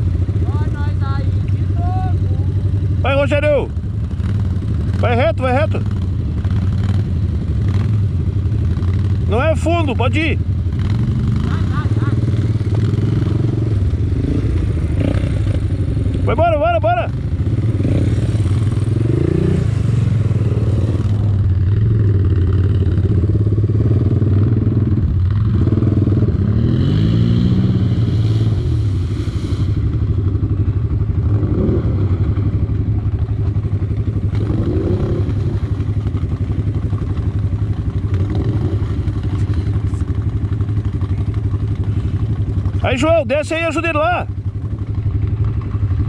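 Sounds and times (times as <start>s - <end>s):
quad bike engine revving: 0.0s - 46.0s.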